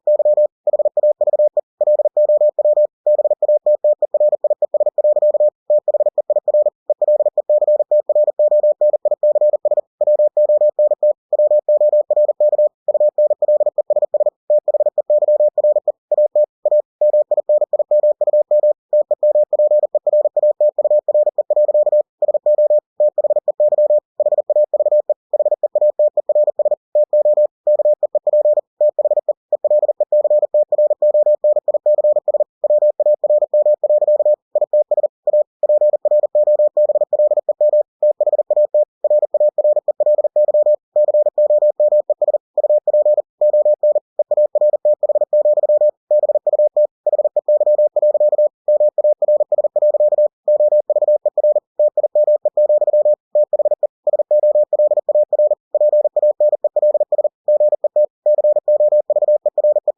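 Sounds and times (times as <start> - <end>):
morse code tone: 0.0 - 59.9.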